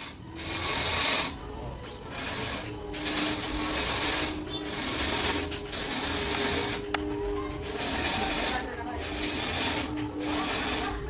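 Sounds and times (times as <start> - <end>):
power saw cutting wood: 0.0 - 1.4, 2.0 - 11.0
faint machine hum: 0.0 - 11.0.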